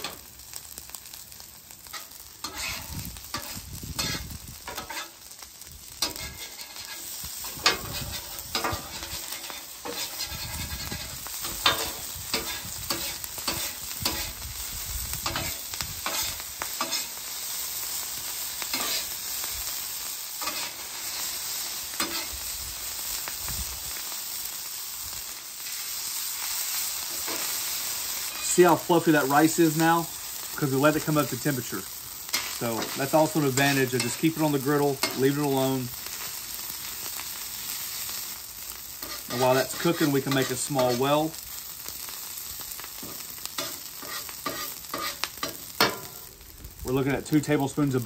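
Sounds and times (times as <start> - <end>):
rice sizzling in oil: 0.0 - 48.0
metal spatula scraping griddle: 1.8 - 14.4, 15.2 - 17.9, 18.7 - 22.6, 26.7 - 46.2.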